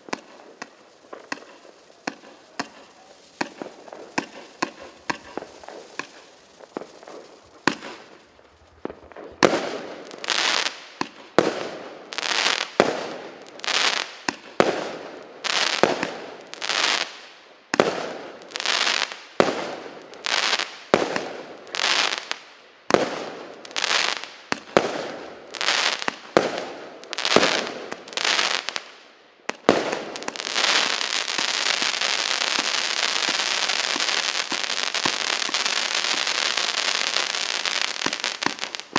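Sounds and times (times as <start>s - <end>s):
fireworks bangs: 0.0s - 17.1s, 17.7s - 28.9s, 29.5s - 38.9s
fireworks crackling: 0.0s - 38.9s.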